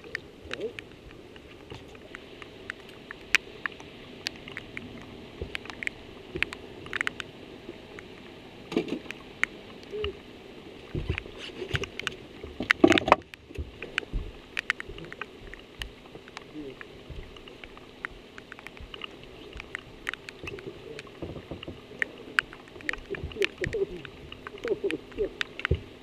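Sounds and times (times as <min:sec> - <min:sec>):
raindrops ticking on camera: 0:00.0 - 0:26.0
steady low hiss: 0:00.0 - 0:26.0.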